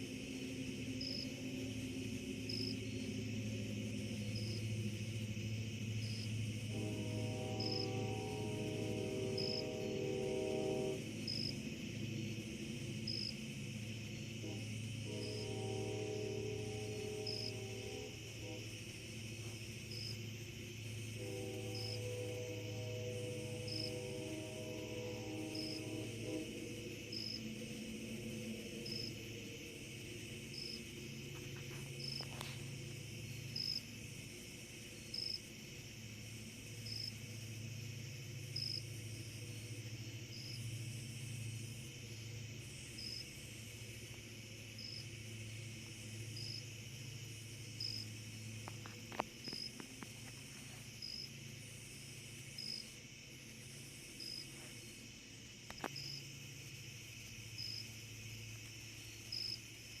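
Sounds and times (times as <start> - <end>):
cricket chirping: 0.0 - 60.0
distant train low rumble: 0.0 - 60.0.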